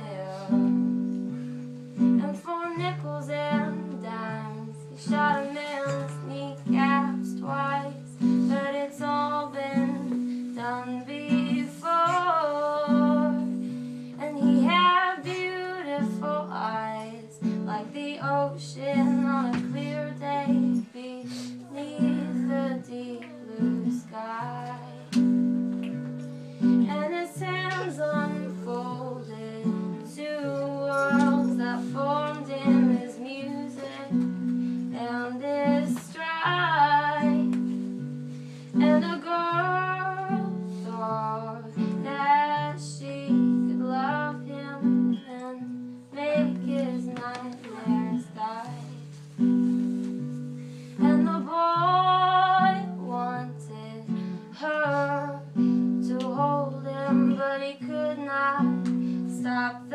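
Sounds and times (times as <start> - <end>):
person singing: 0.0 - 1.2, 2.1 - 13.6, 14.2 - 25.3, 26.8 - 37.8, 38.8 - 49.2, 51.0 - 59.9
acoustic guitar: 0.0 - 59.9.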